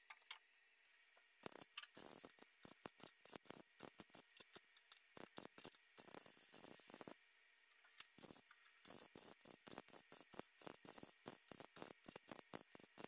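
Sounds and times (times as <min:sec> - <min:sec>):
welder crackling bursts: 0:01.4 - 0:07.2, 0:08.1 - 0:13.0.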